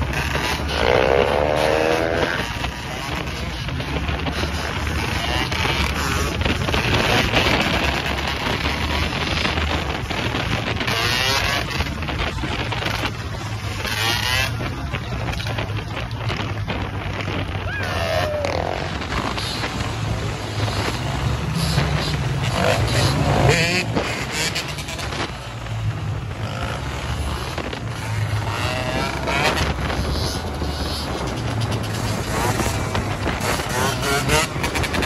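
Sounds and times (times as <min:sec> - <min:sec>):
motorcycle engines revving: 0:00.0 - 0:35.0
wind rushing over microphone: 0:00.0 - 0:35.0.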